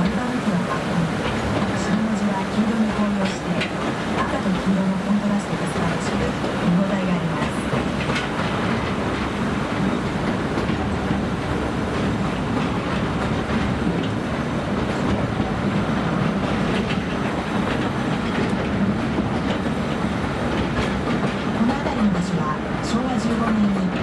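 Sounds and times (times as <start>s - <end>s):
train rumbling along track: 0.0s - 24.0s
wheels clickety-clack over rails: 0.0s - 24.0s.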